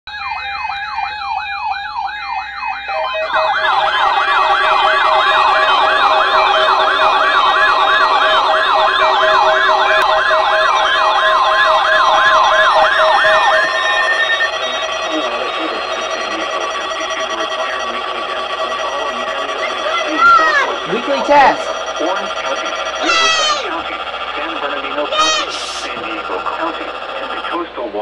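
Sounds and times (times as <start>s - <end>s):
steady alarm tone: 0.1s - 28.0s
warbling electronic alarm siren: 0.1s - 28.0s
fast electronic beeps: 2.8s - 25.2s, 25.8s - 28.0s.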